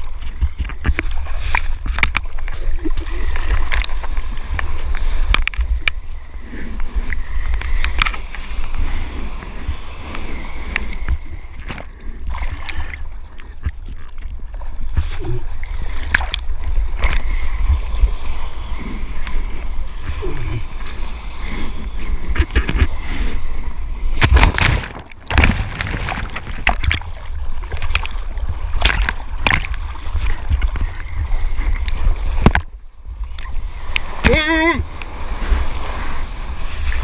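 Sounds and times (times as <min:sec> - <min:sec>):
water splashing over surfboard: 0:00.0 - 0:37.0.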